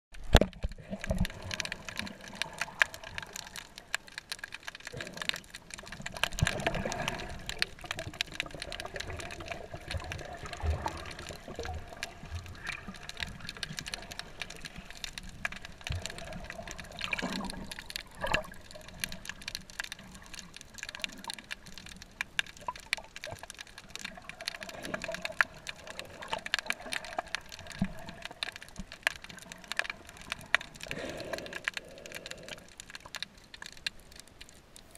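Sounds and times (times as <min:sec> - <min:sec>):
sharp crackling clicks: 0:00.1 - 0:34.9
water gurgling underwater: 0:00.2 - 0:34.0.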